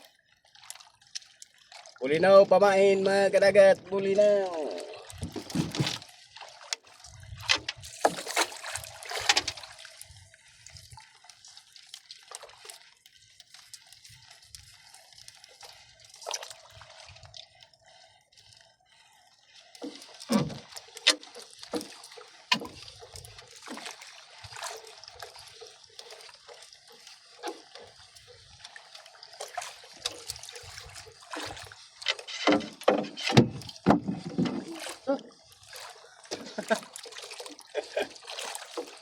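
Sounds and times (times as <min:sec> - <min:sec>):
water trickling and splashing: 0:00.0 - 0:39.0.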